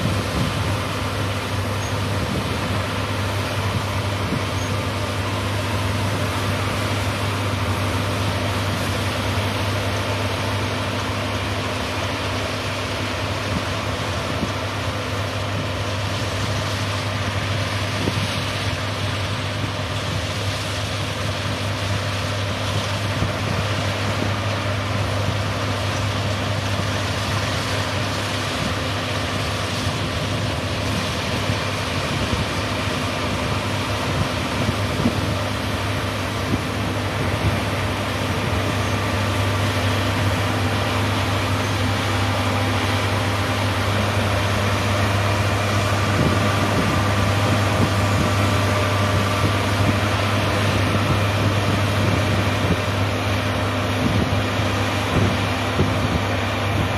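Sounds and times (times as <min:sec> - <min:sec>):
combine harvester humming: 0:00.0 - 0:56.9.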